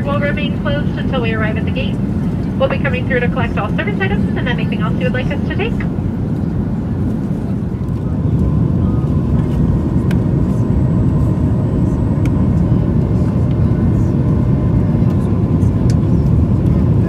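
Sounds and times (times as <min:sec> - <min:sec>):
airplane cabin roar: 0:00.0 - 0:17.0.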